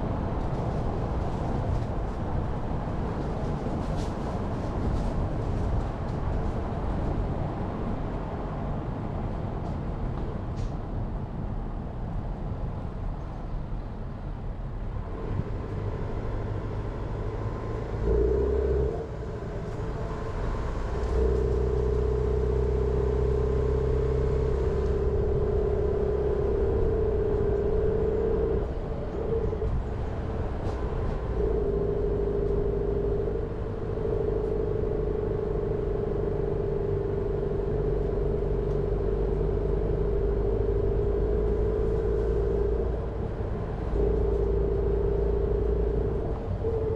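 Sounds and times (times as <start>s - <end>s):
car engine drone: 0.0s - 46.9s
road and tyre rumble: 0.0s - 46.9s.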